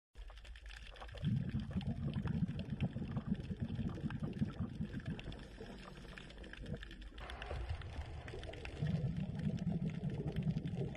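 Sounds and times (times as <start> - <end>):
underwater bubbling: 0.2 - 10.9.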